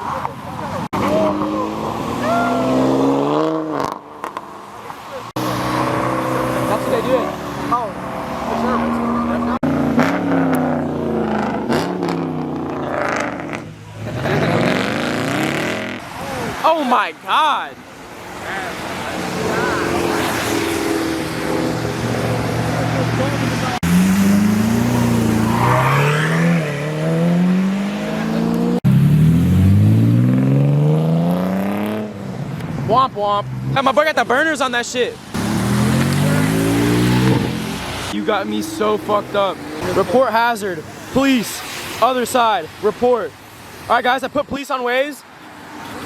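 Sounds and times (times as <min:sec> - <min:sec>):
car engines revving: 0:00.0 - 0:44.3.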